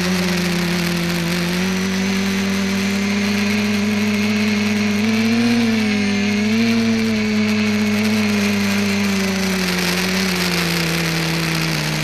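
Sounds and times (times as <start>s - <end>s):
drone motors and propellers humming: 0.0s - 12.0s.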